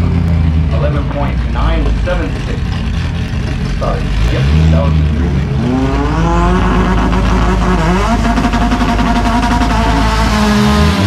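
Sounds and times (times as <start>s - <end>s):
tyres spinning: 0.0s - 10.4s
car engine revving hard: 0.0s - 11.0s.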